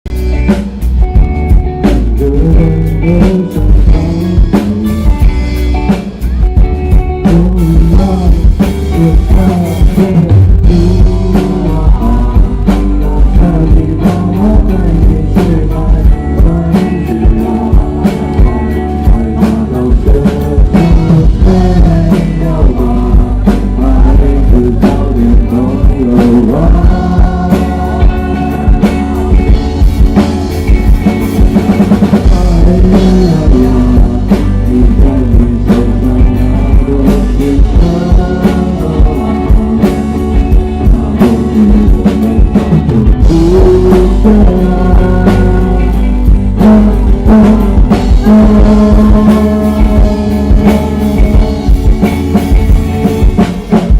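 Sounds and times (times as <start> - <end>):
drum kit: 0.0 - 53.9
electric guitar: 0.0 - 53.9
person singing: 0.1 - 53.9.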